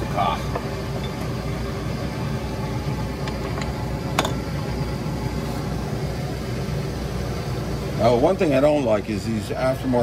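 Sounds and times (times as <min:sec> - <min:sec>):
metal lathe running: 0:00.0 - 0:09.0.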